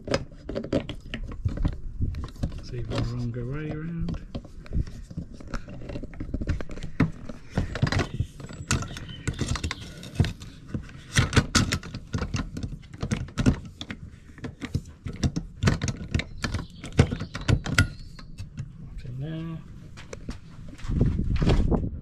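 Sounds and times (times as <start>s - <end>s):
bike rack parts clicking and tapping: 0.0s - 18.7s.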